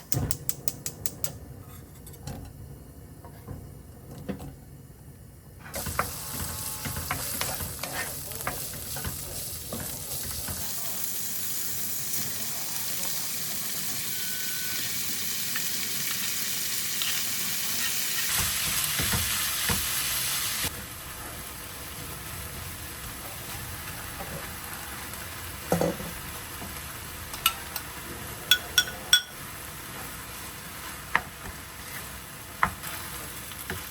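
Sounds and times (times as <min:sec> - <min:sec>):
food sizzling in a pan: 0:05.7 - 0:33.9.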